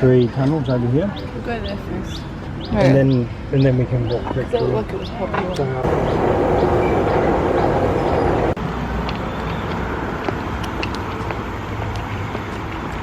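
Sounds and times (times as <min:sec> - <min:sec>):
city traffic noise: 0:00.0 - 0:13.0.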